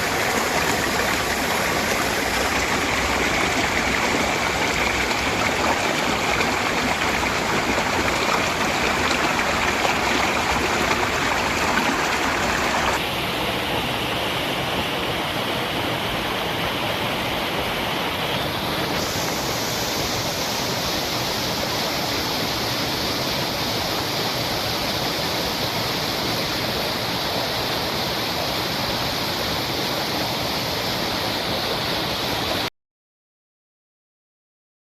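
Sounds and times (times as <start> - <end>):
waterfall splashing: 0.0 - 32.7.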